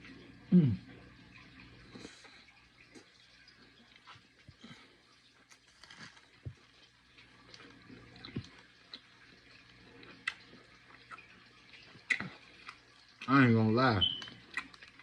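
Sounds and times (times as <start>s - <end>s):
wet chewing and smacking: 0.9s - 15.0s.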